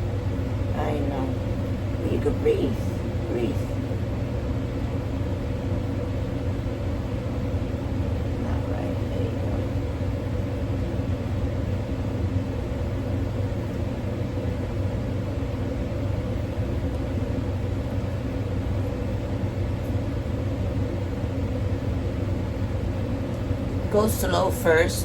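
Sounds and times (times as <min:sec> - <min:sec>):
low mechanical motor hum: 0:00.0 - 0:25.0.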